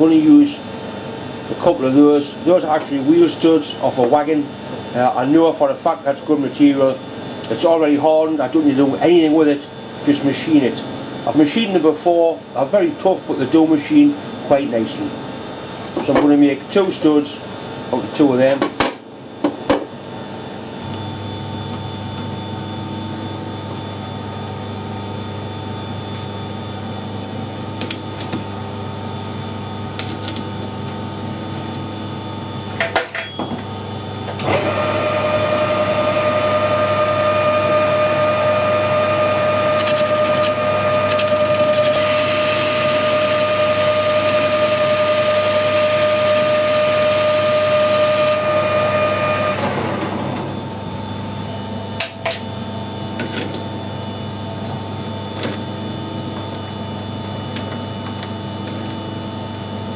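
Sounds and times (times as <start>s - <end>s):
lathe machine whine: 0.0s - 59.9s.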